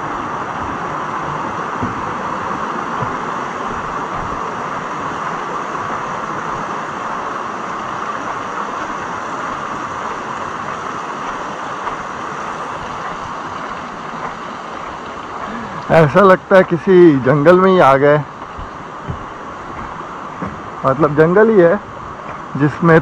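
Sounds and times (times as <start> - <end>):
stream splashing over rocks: 0.0 - 23.0
waterfall rushing: 0.0 - 23.0.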